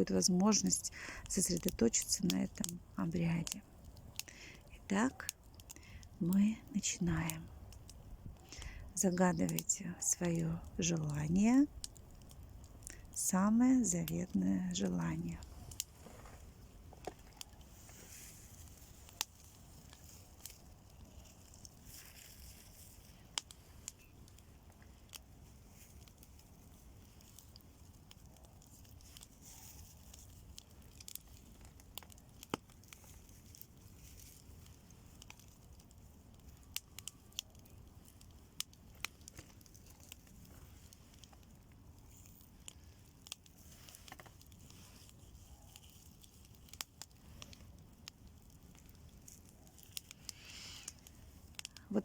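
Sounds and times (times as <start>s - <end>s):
bonfire crackling and popping: 0.0s - 52.0s.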